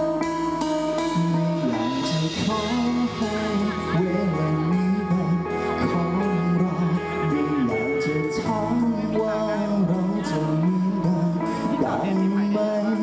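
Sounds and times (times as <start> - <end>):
bass guitar: 0.0 - 13.0
drum kit beat: 0.0 - 13.0
man singing into a microphone: 0.0 - 13.0.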